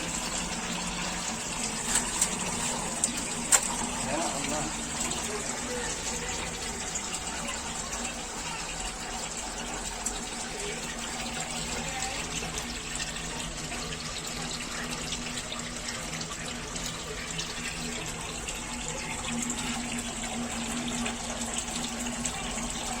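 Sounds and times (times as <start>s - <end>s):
water gushing through filter: 0.0s - 23.0s.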